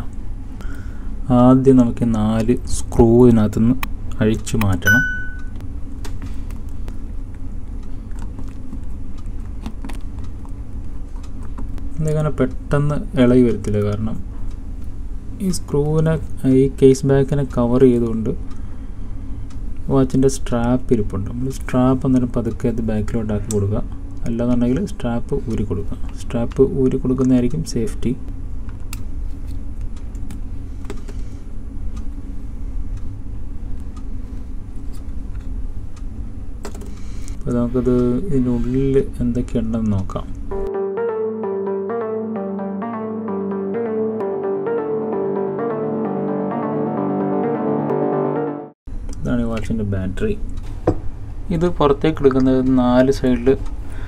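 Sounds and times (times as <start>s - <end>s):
low background hum: 0.0s - 40.7s, 48.9s - 54.0s.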